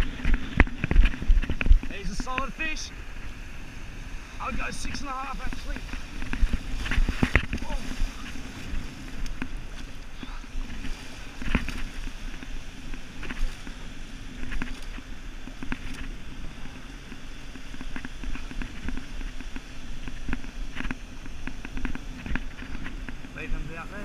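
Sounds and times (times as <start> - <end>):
surf washing over sand: 0.0 - 24.0
wind buffeting microphone: 0.0 - 24.0.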